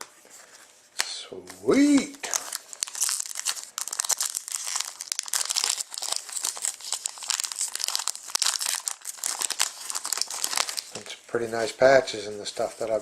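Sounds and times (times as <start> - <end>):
card wrappers crinkling: 1.5 - 13.0.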